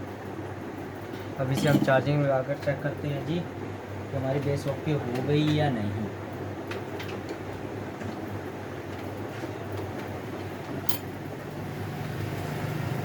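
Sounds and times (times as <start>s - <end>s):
low fan hum: 0.0s - 13.0s.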